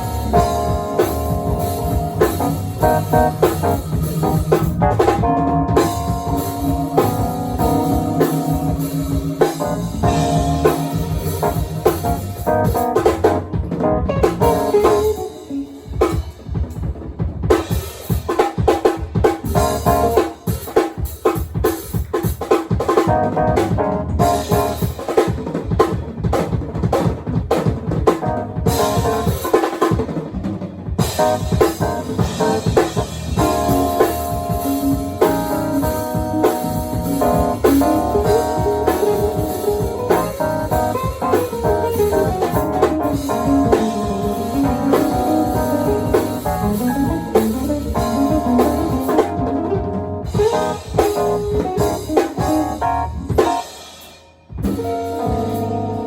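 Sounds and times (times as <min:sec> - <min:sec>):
drum kit hits: 0:00.0 - 0:56.0
live funk band playing: 0:00.0 - 0:56.0.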